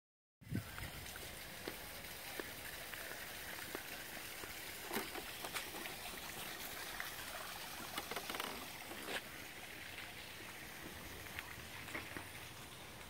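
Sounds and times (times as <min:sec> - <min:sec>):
outdoor background hiss: 0:00.4 - 0:13.0.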